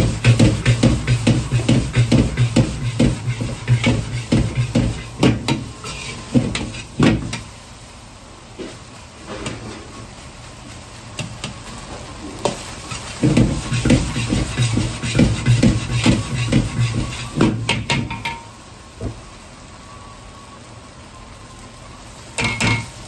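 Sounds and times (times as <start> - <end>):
fried rice sizzling in a wok: 0.0 - 23.0.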